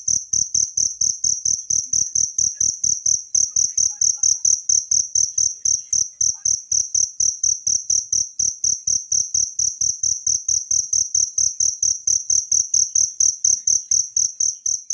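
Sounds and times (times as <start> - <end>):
cricket chirping: 0.0 - 14.9.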